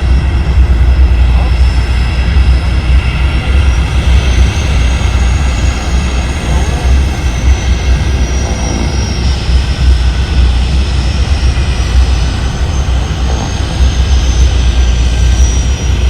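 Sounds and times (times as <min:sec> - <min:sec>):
engine drone with deep rumble: 0:00.0 - 0:16.0
faint high whine: 0:00.0 - 0:16.0.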